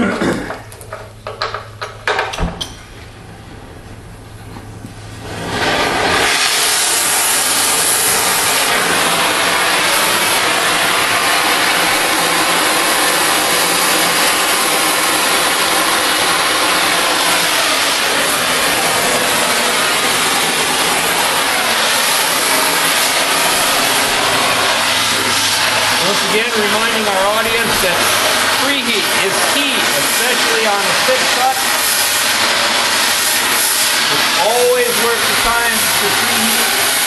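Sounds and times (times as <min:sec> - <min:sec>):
low flame rumble: 0:02.8 - 0:37.0
cutting torch hissing: 0:05.0 - 0:37.0.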